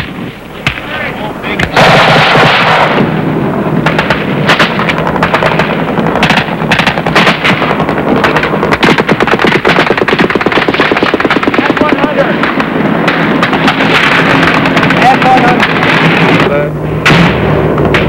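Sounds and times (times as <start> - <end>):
automatic gunfire: 1.6 - 3.1, 3.8 - 18.0.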